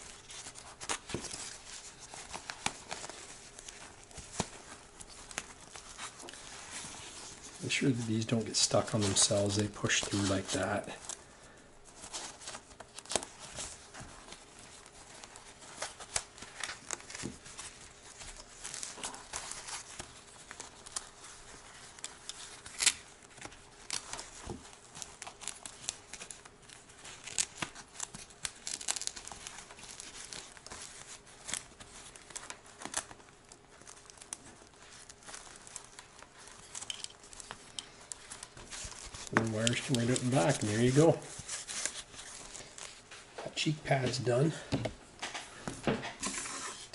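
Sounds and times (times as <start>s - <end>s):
fabric rustling and scraping: 0.0s - 11.2s, 11.8s - 46.9s.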